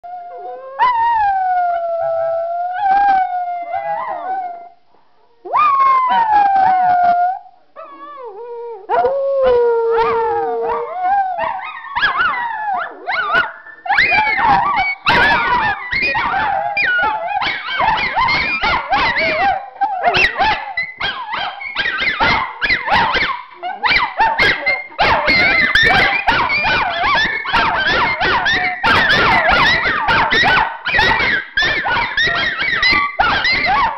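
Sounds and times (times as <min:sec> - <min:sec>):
dogs howling: 0:05.5 - 0:33.9.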